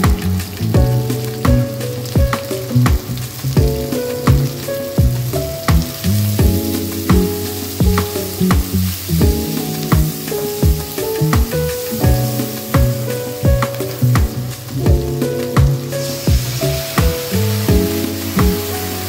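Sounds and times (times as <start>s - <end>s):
vegetables sizzling in a wok: 0.0s - 14.8s, 15.7s - 19.0s
background music with steady beat: 0.0s - 19.0s.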